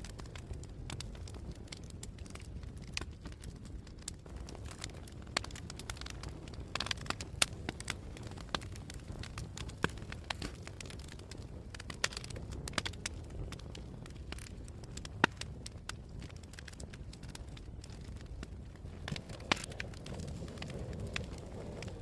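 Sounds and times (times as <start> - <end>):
fire low rumble: 0.0 - 22.0
wood fire crackling and popping: 0.0 - 22.0.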